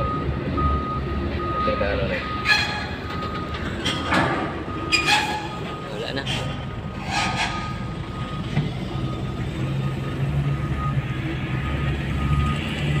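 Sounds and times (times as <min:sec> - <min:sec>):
diesel truck engine rumble: 0:00.0 - 0:13.0.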